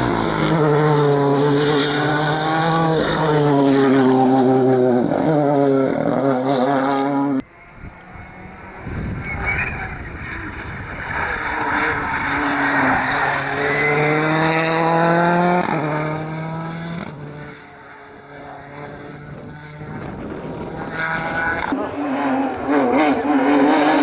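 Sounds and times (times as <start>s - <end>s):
faint engine: 0.0s - 24.0s
rally car engine revving: 0.0s - 24.0s.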